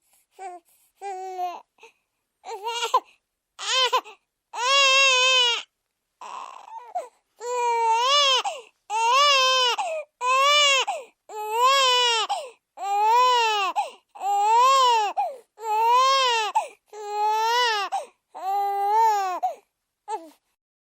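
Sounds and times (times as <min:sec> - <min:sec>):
baby crying: 0:02.4 - 0:20.4.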